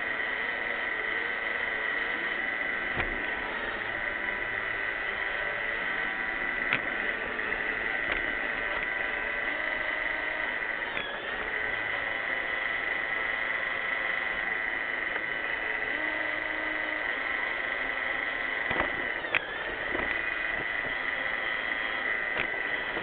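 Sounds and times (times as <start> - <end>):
robot vacuum running: 0.0 - 23.0.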